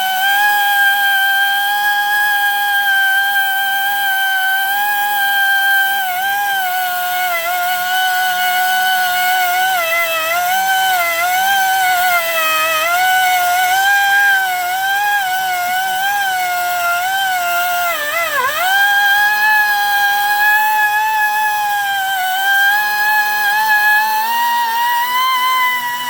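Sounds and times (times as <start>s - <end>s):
rotary tool sanding stone: 0.0s - 26.0s.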